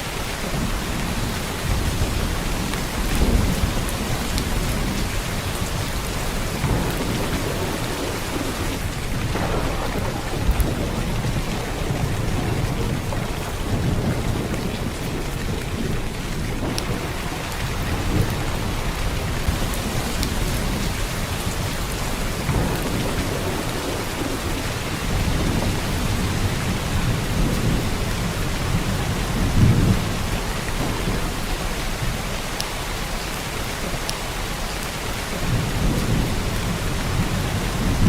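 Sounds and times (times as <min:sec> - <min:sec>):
heavy rain: 0:00.0 - 0:38.0
thunder rumbling: 0:00.0 - 0:38.0.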